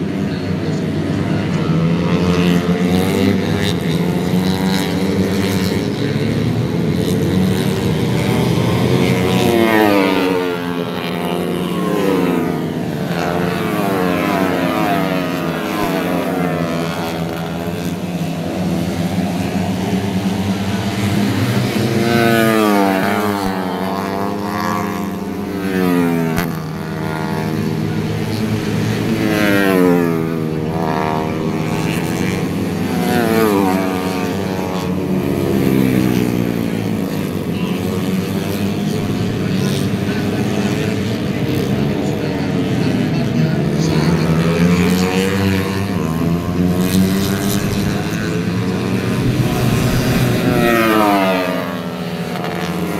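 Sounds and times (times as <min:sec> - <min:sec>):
racing motorcycles passing by: 0:00.0 - 0:52.9.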